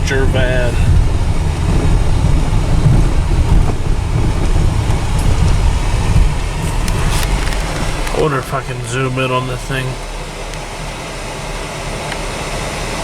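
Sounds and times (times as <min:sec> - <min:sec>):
vehicle driving on rough dirt road: 0:00.0 - 0:13.0.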